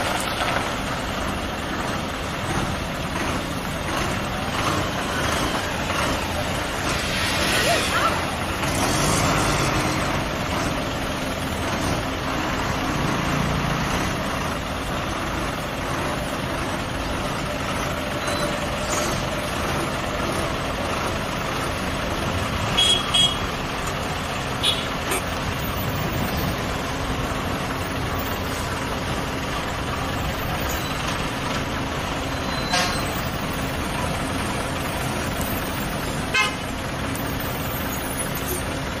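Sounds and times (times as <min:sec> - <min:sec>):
vehicle engines running slowly: 0:00.0 - 0:39.0.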